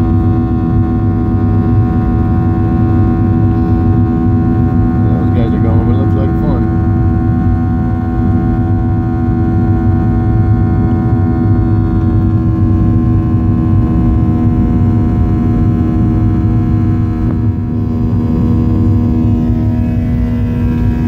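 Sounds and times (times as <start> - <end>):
jet engine drone in cabin: 0.0 - 21.0.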